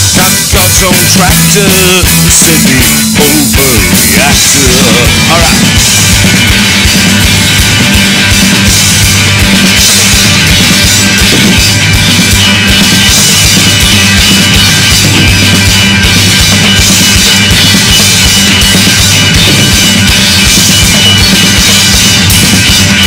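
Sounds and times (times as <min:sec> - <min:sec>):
fast bass drum beat: 0:00.0 - 0:23.0
rock band playing: 0:00.0 - 0:23.0.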